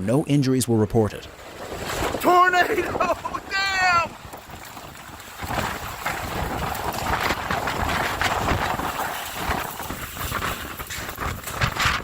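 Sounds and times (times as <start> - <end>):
storm wind buffeting microphone: 1.2 - 12.0.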